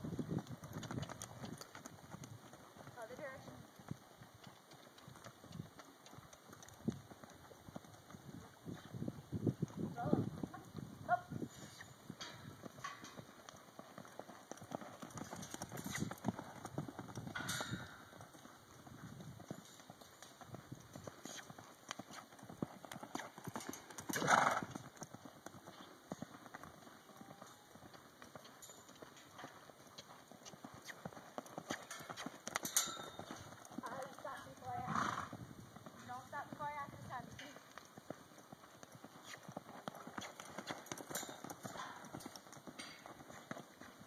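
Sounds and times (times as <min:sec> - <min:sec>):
horse hoofbeats on dirt: 0:00.0 - 0:44.0.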